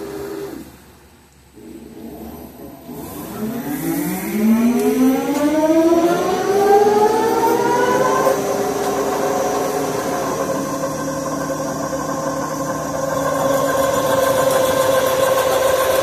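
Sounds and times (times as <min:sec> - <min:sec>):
lathe spindle whine spinning up: 0:00.0 - 0:00.7, 0:01.6 - 0:16.0.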